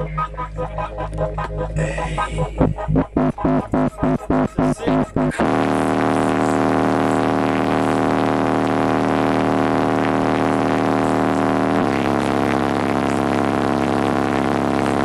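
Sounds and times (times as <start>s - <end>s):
bass-heavy synth music on car audio: 0.0s - 15.0s.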